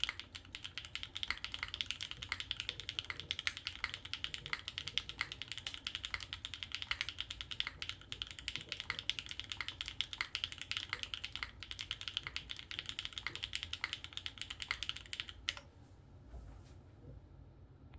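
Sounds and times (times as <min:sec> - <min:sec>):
typing on mechanical keyboard: 0:00.0 - 0:15.6.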